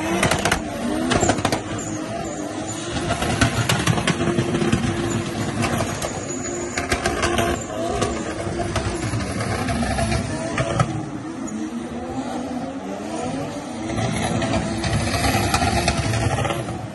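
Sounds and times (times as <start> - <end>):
car engines revving: 0.0 - 16.9.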